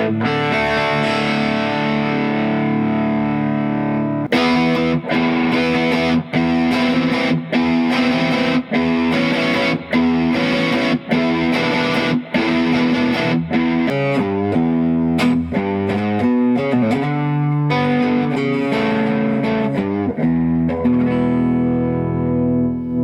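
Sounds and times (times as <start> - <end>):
electric guitar through amp: 0.0 - 23.0.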